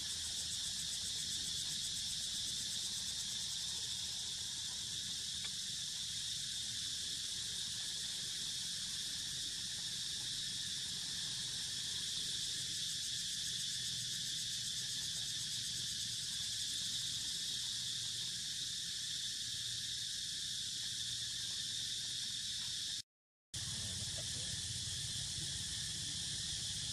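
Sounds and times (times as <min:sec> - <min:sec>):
insects buzzing: 0:00.0 - 0:23.0, 0:23.6 - 0:26.9.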